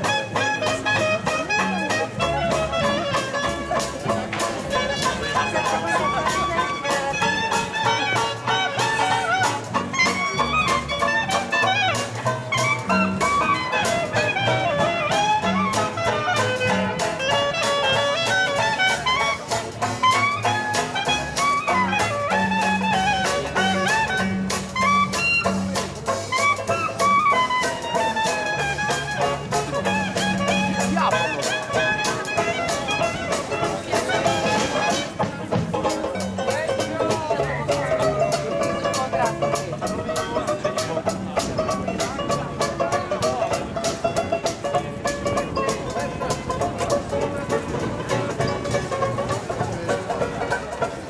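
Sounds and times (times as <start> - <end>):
trumpet melody: 0.0 - 43.8
banjo: 0.0 - 51.0
drum kit beat: 0.0 - 51.0
plucked double bass: 0.0 - 51.0.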